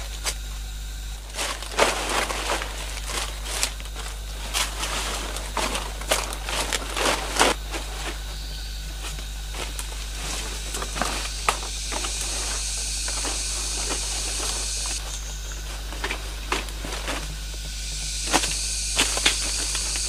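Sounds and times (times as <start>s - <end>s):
leaves rustling and crackling: 0.0s - 20.0s
high even hiss: 1.1s - 20.0s.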